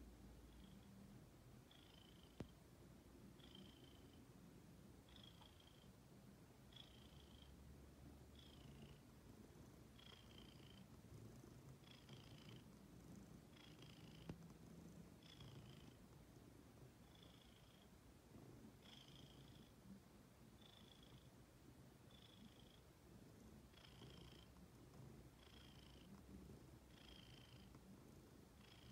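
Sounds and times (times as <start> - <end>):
cat purring: 0.0 - 28.9.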